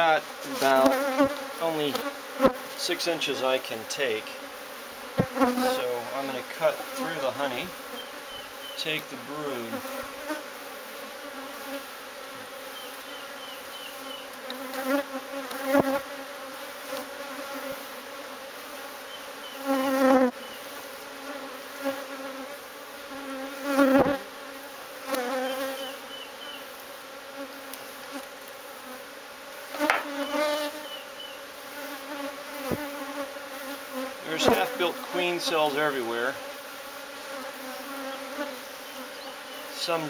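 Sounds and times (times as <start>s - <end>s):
bee colony buzzing: 0.0s - 40.0s
bees flying past: 0.0s - 40.0s.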